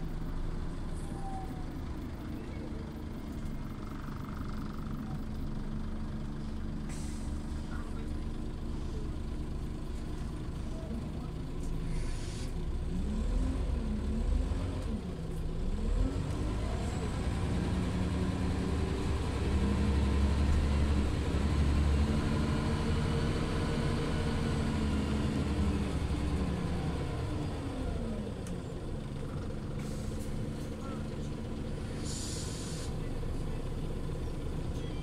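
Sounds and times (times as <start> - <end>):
bus engine: 0.0 - 35.0.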